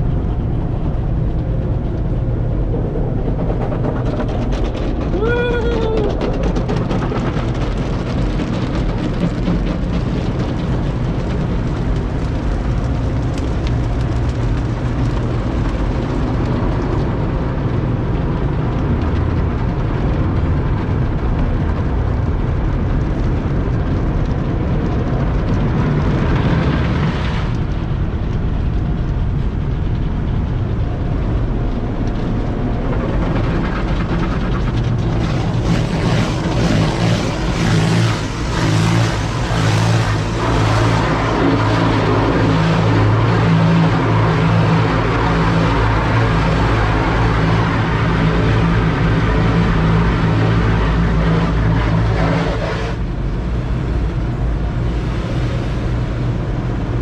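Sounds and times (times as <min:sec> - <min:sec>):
car wash water jets and machinery: 0:00.0 - 0:57.0.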